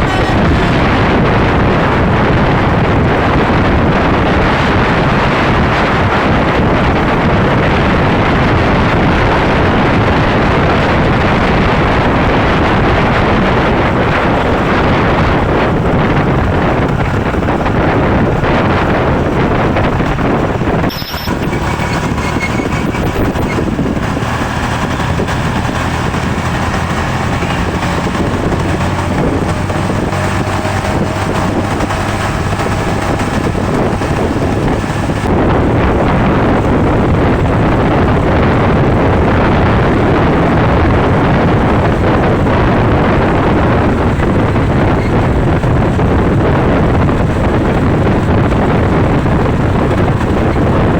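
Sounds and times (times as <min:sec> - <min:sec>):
road noise: 0:00.0 - 0:50.9
vehicle engine: 0:00.0 - 0:50.9
wind rushing over microphone: 0:00.0 - 0:50.9.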